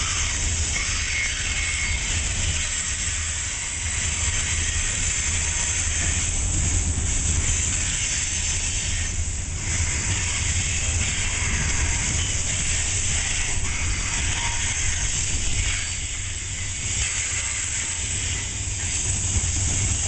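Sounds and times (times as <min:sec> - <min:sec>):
freight train wheels hissing on rails: 0:00.0 - 0:20.0.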